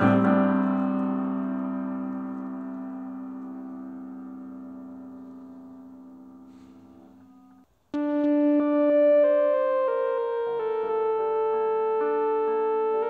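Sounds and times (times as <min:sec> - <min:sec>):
electric keyboard chords: 0:00.0 - 0:13.0.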